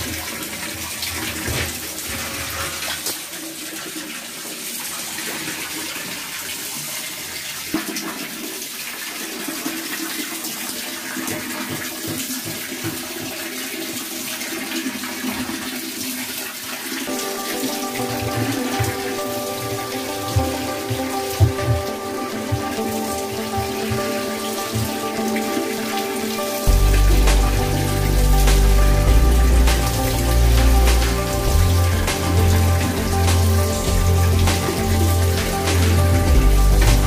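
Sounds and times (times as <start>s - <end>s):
hose water spraying and splashing: 0.0s - 37.0s.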